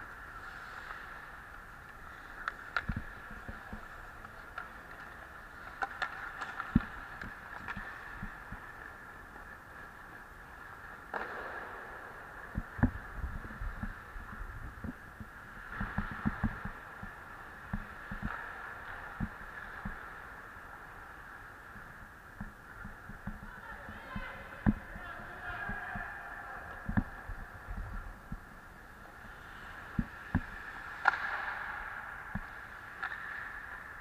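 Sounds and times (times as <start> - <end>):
skate blades scraping ice: 0.0 - 21.8, 28.0 - 34.0
hockey sticks and puck clacking: 0.0 - 34.0.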